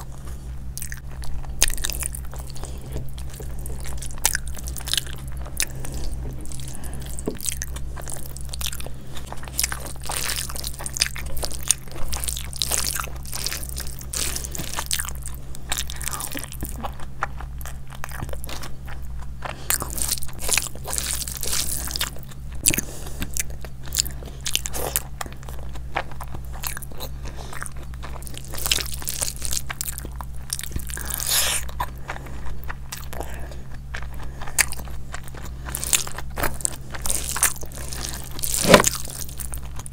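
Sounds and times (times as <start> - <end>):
low hum: 0.0 - 39.9
person chewing and crunching food: 0.0 - 39.9.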